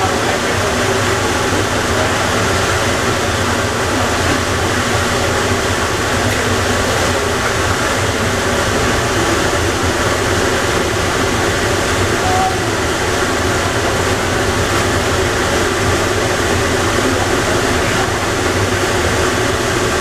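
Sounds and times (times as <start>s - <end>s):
people mover train rumbling: 0.0s - 20.0s.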